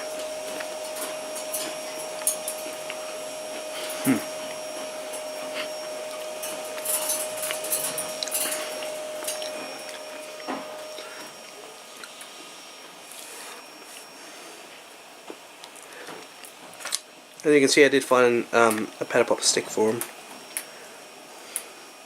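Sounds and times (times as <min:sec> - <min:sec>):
motor hum and hiss: 0:00.0 - 0:22.0.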